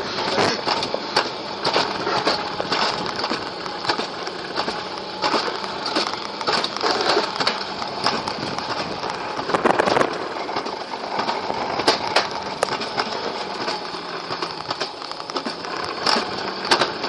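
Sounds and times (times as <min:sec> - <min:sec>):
coaster wheels rattling on rails: 0:00.0 - 0:17.0.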